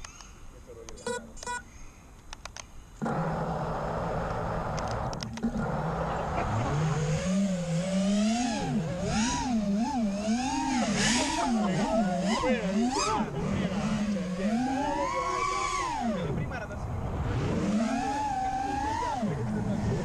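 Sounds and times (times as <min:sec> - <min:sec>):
drone motors and propellers humming: 0:03.0 - 0:20.0.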